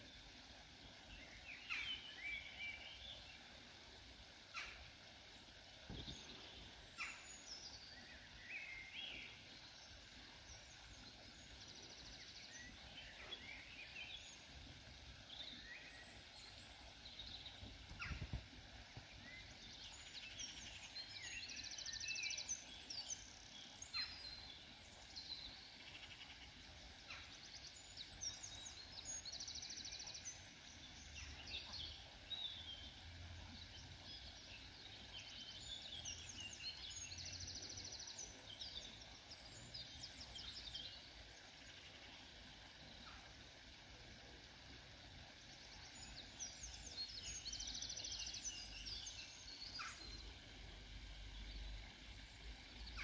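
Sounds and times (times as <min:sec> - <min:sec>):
faint bird chirping and peeping: 0:00.0 - 0:53.0.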